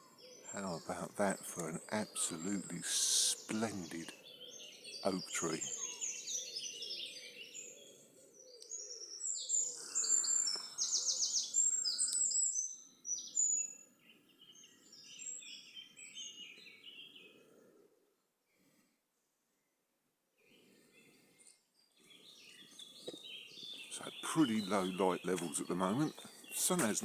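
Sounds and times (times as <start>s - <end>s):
birds singing: 0.0s - 17.6s, 20.4s - 27.0s.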